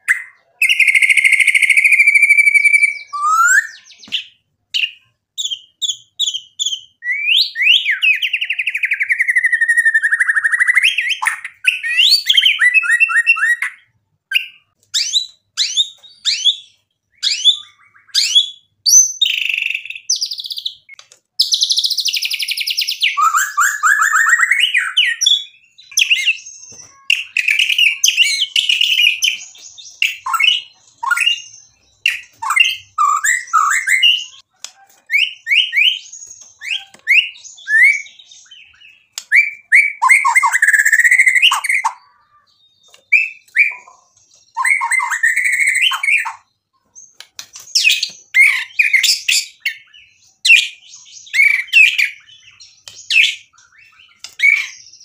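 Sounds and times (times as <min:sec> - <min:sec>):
songbird singing varied song: 0:00.0 - 0:55.0.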